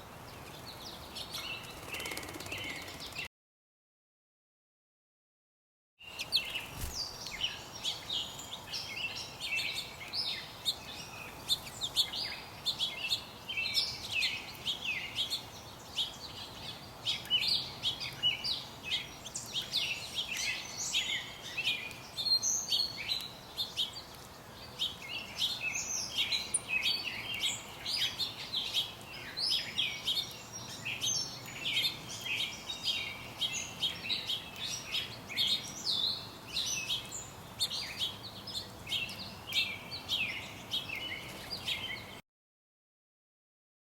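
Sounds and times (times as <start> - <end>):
small birds chirping: 0.0 - 3.3, 6.0 - 42.2.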